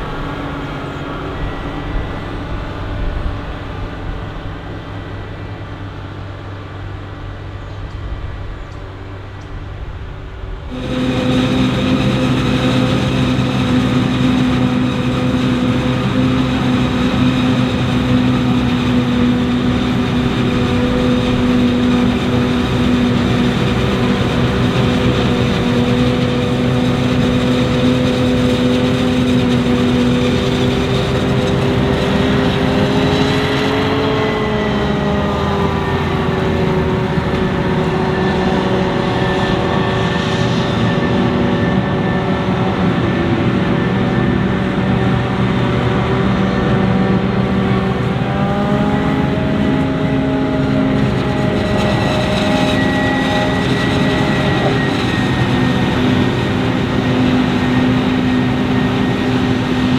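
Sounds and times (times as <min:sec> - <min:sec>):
diesel farm machinery running: 0:00.0 - 0:59.9.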